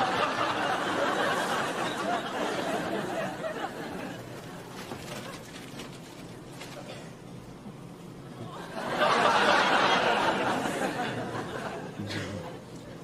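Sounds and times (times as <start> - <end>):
audience laughter and chatter: 0.0 - 6.0, 8.2 - 13.0.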